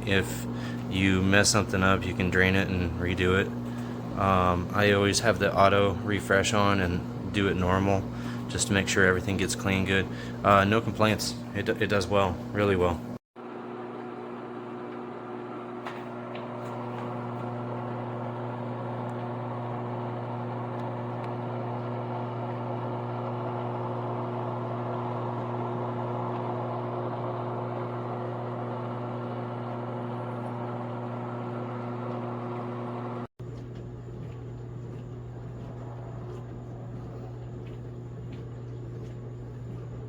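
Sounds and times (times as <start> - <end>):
dishwasher motor hum: 0.0 - 40.0.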